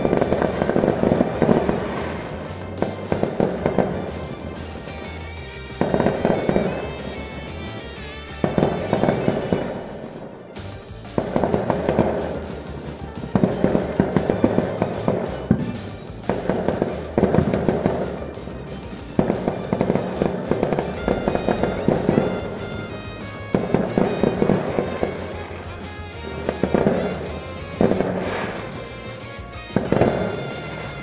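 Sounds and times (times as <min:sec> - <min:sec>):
fireworks crackling volleys: 0:00.0 - 0:31.0.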